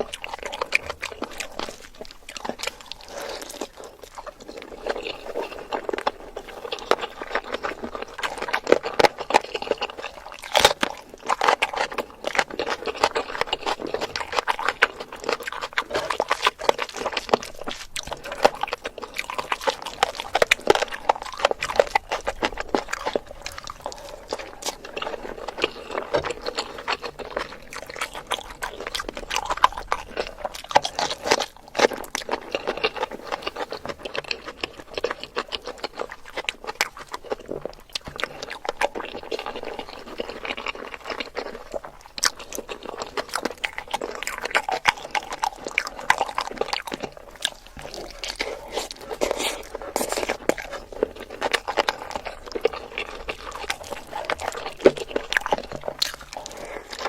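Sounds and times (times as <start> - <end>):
close chewing and biting: 0.0 - 57.0
wet mouth clicks and crunches: 0.0 - 57.0.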